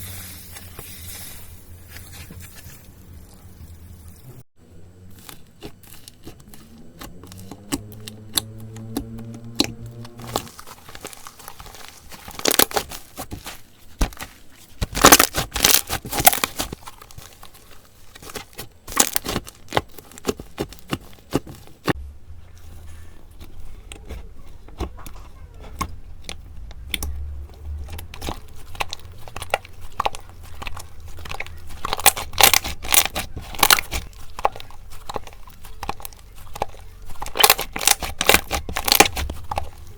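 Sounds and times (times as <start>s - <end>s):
slime crackling and popping: 5.1s - 22.0s, 23.3s - 39.9s.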